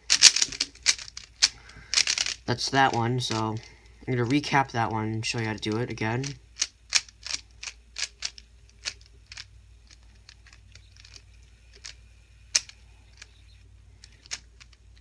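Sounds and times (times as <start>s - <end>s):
puzzle cube clicking: 0.1s - 3.6s, 5.6s - 13.3s, 14.0s - 15.0s.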